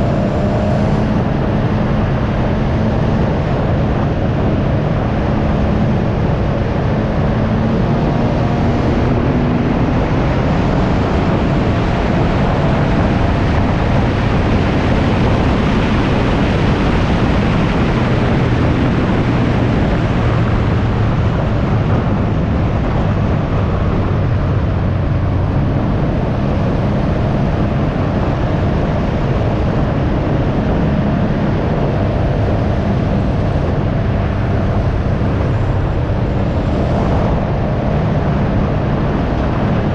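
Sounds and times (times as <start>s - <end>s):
three-wheeler engine running: 0.0s - 39.9s
wind rushing over microphone: 0.0s - 39.9s.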